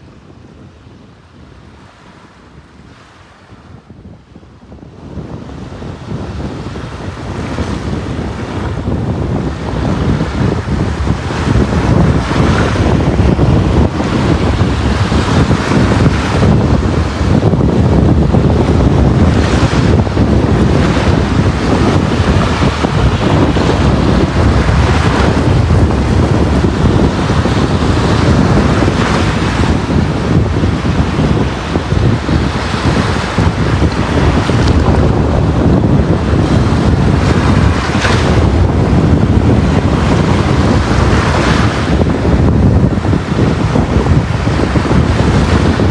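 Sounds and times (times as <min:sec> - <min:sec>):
wind rumble on microphone: 0:00.0 - 0:45.9
sea waves breaking: 0:00.4 - 0:45.9.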